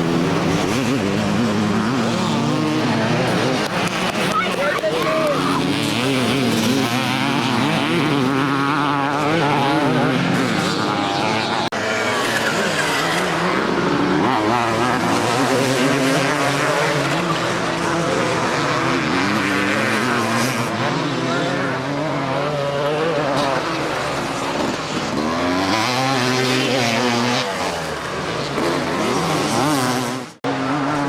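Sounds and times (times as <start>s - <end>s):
motocross bikes revving: 0.0s - 31.0s.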